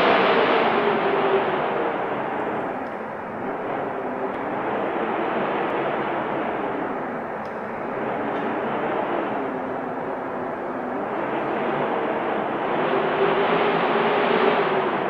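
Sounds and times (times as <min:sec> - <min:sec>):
wind blowing in gusts: 0:00.0 - 0:15.0.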